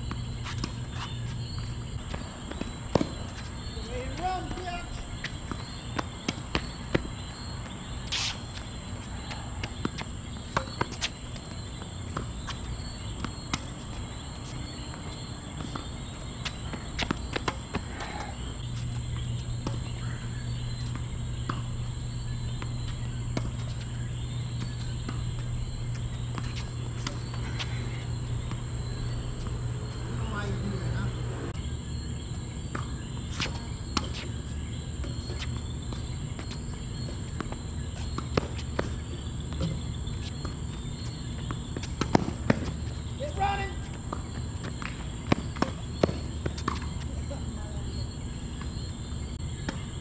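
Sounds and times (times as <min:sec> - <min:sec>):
tennis balls hit and bouncing: 0:00.0 - 0:31.1, 0:32.3 - 0:50.0
high insect chirr: 0:00.0 - 0:50.0.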